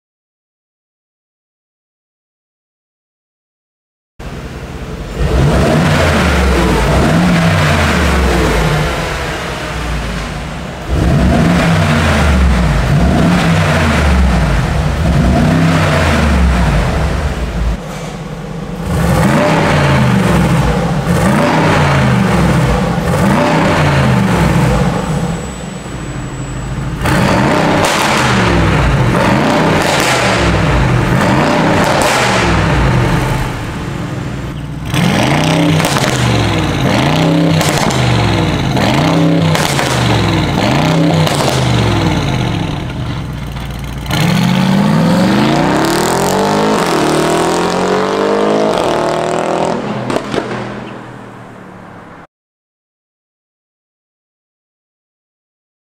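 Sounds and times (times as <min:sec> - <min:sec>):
car engine revving: 0:04.2 - 0:52.2.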